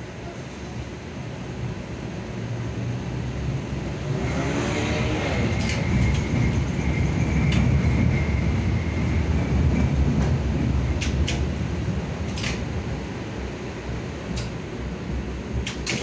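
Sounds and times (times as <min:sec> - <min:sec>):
tram rumble and motor whine: 0:00.0 - 0:16.0.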